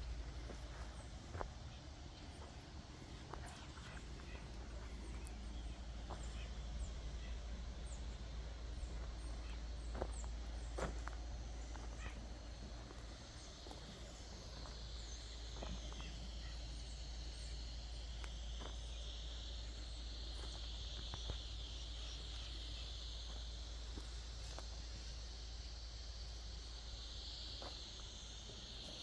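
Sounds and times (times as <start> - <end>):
insect chorus trilling: 0.0 - 29.0.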